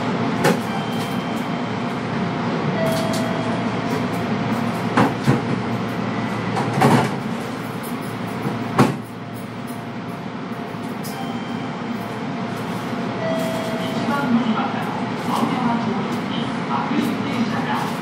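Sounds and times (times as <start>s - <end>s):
train equipment and air conditioning hum: 0.0s - 18.0s.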